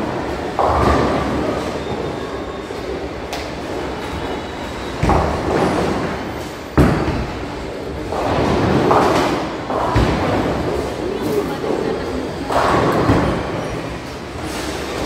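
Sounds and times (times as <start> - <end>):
bowling balls rolling: 0.0 - 15.0.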